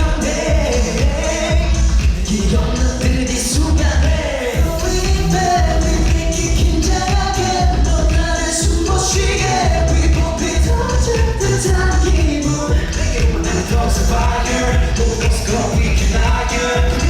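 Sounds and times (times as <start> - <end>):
group singing pop song: 0.0 - 17.0
pop backing track with bass beat: 0.0 - 17.0.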